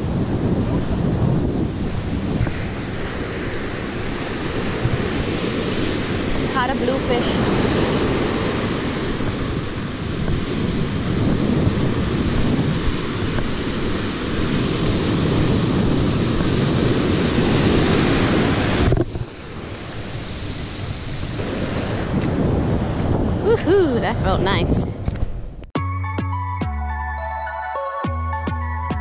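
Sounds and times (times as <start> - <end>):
ocean surf breaking: 0.0 - 24.7
wind buffeting microphone: 0.0 - 25.6.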